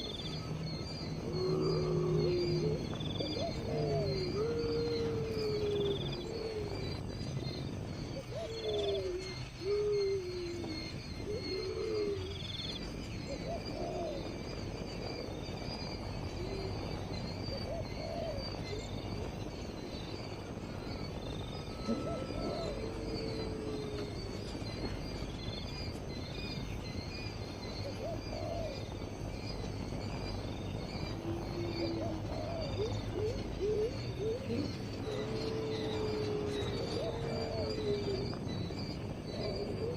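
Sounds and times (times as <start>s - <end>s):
low hooting bird calls: 0.0s - 39.9s.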